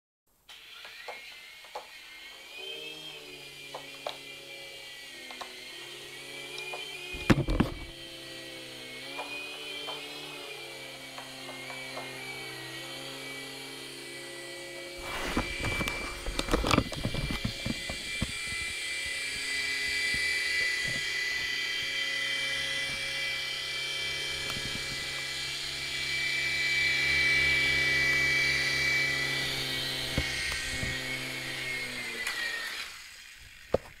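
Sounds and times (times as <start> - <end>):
toy helicopter motors whining: 0.5 - 34.0.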